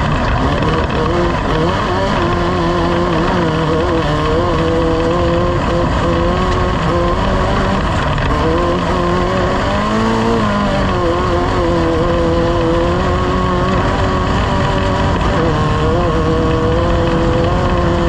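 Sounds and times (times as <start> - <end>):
race vehicle engine running: 0.0 - 18.0.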